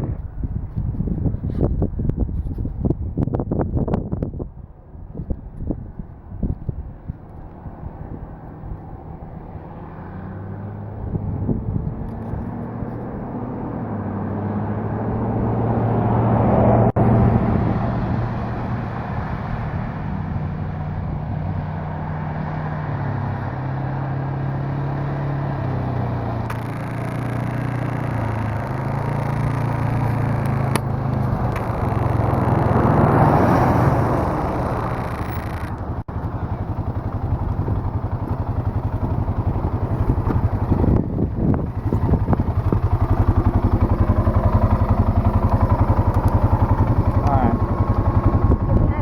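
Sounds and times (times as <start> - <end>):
quad engine running: 3.8 - 49.0.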